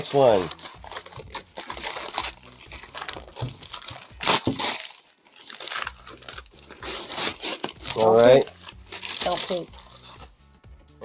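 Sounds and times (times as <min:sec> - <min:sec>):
paper bag crinkling and tearing: 0:00.0 - 0:10.3.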